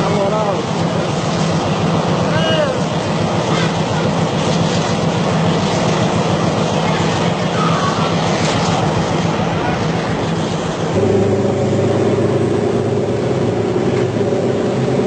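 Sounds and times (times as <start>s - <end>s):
rumble of train wheels: 0.0s - 15.0s
train diesel engine running: 0.0s - 15.0s.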